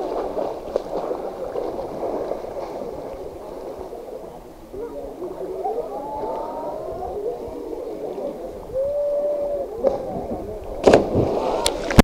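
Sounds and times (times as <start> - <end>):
water gurgling and sloshing: 0.0 - 12.0.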